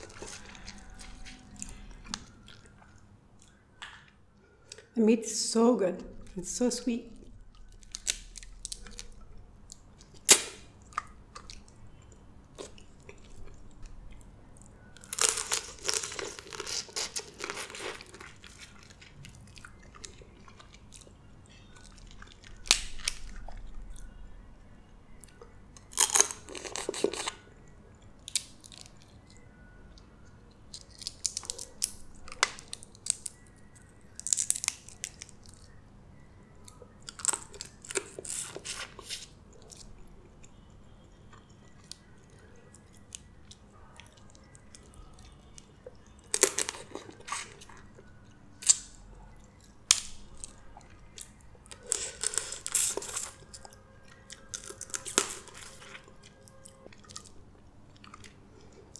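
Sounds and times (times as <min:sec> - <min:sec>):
chewing: 0:00.0 - 0:04.9, 0:07.2 - 0:24.2, 0:25.1 - 0:35.8, 0:36.5 - 0:58.9
crab shell crunching and crackling: 0:00.0 - 0:04.9, 0:07.3 - 0:24.2, 0:25.1 - 0:35.8, 0:36.5 - 0:58.9.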